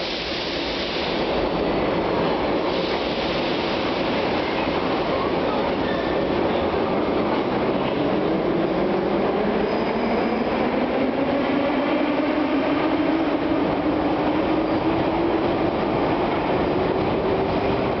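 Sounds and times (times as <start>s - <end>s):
rising train whine: 0.0s - 18.0s
train wheels rumbling on track: 0.0s - 18.0s.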